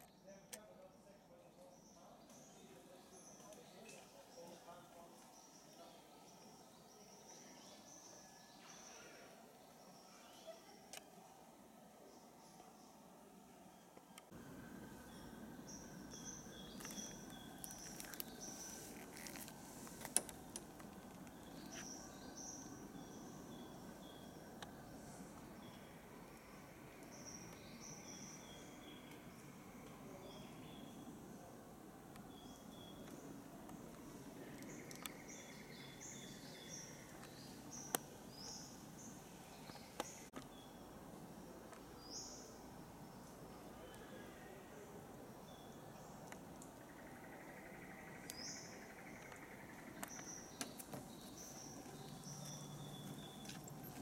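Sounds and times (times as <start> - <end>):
steady faint whine: 2.0 - 54.0.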